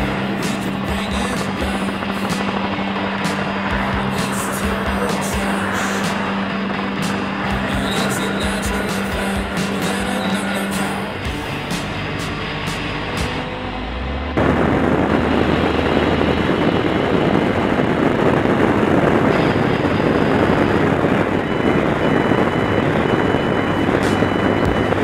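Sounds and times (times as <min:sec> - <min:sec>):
music: 0:00.0 - 0:25.0
wind noise on microphone: 0:00.0 - 0:25.0.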